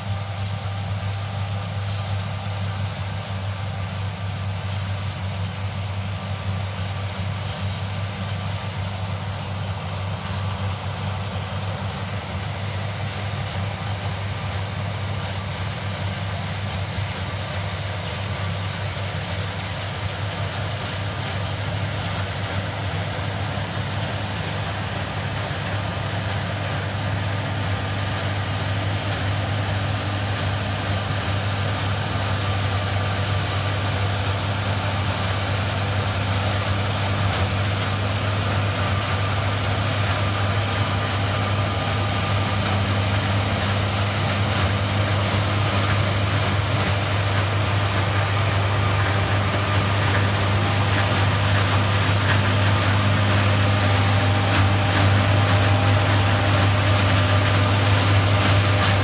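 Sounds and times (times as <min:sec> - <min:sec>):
combine harvester engine drone: 0:00.0 - 0:59.0
machinery noise: 0:00.0 - 0:59.0.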